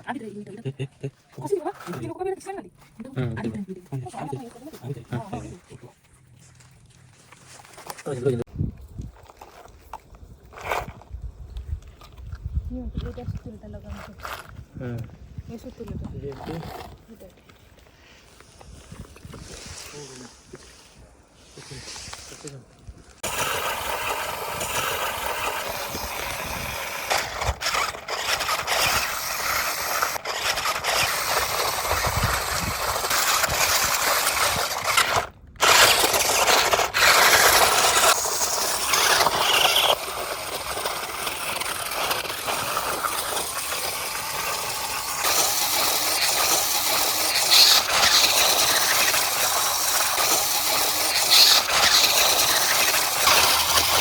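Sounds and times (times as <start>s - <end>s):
rc car motor and tyres: 3.8s - 54.0s.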